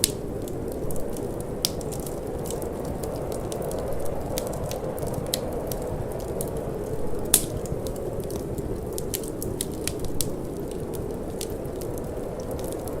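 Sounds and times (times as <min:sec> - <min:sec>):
low rush of wind: 0:00.0 - 0:13.0
wood fire crackling: 0:00.0 - 0:13.0.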